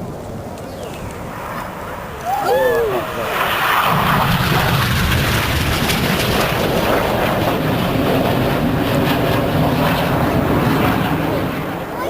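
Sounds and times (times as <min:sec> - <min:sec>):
jet engines rumbling overhead: 0:00.0 - 0:12.0.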